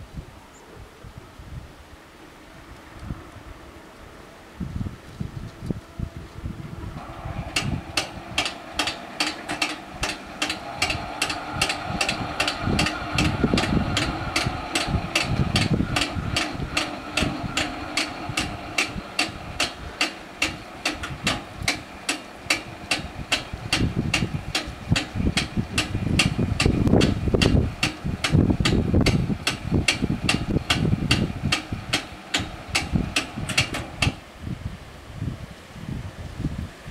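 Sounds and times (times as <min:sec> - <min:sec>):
steady hum: 0:02.4 - 0:34.8.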